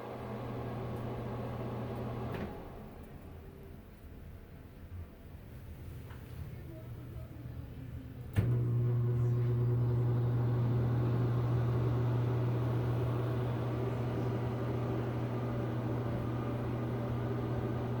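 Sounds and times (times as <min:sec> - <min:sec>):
fan motor hum: 0:00.0 - 0:03.5, 0:05.6 - 0:18.0.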